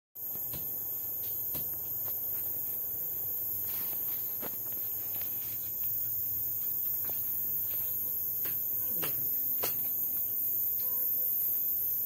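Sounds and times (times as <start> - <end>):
crickets chirring: 0.2 - 12.0.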